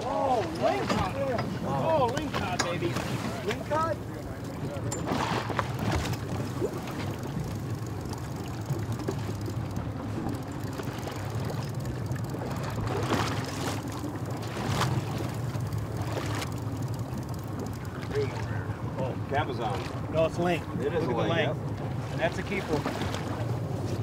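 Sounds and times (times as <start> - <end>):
boat engine idling: 0.0 - 24.0
water noise: 0.0 - 24.0
wind: 0.0 - 24.0.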